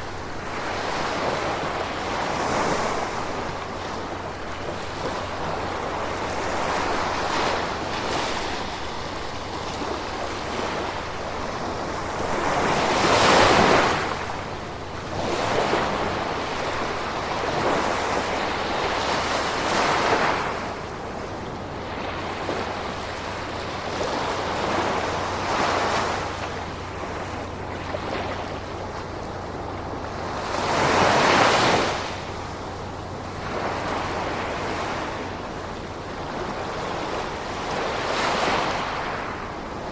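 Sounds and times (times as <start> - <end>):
big waves breaking: 0.0 - 39.9.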